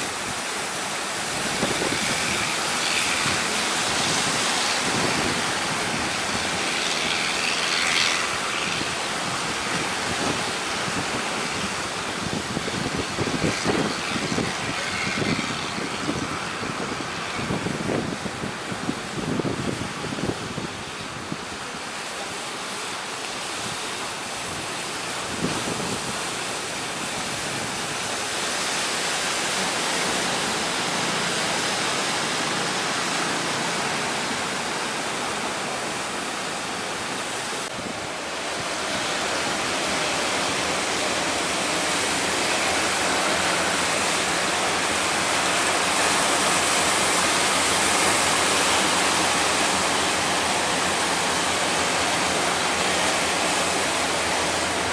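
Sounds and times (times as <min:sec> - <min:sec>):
heavy surf breaking: 0:00.0 - 0:54.9.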